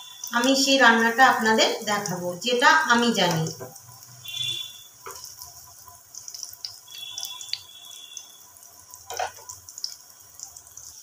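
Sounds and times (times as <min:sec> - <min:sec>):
food frying in oil: 0:00.0 - 0:11.0
oil crackles and pops: 0:01.8 - 0:11.0.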